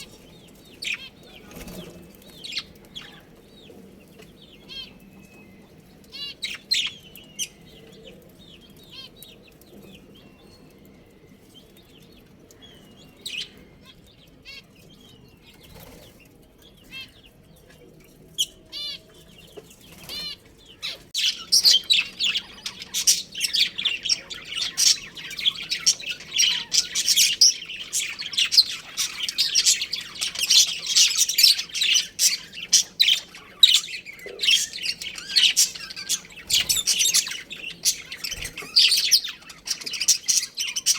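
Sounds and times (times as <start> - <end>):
budgerigars chirping: 0.0 - 17.8, 18.4 - 40.9.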